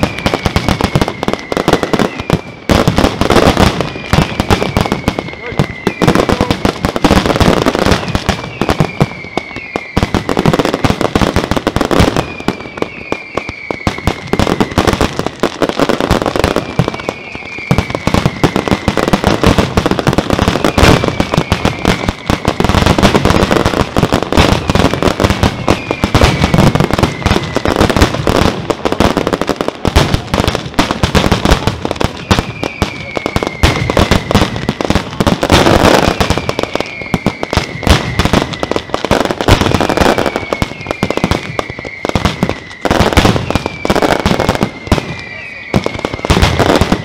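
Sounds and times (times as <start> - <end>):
falling firework whistles: 0.0 - 47.0
fireworks bangs and crackling: 0.0 - 47.0.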